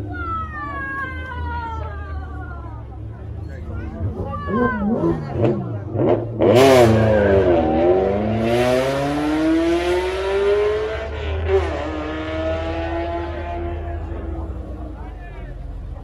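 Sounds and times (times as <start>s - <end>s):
car engine accelerating: 2.9s - 16.0s.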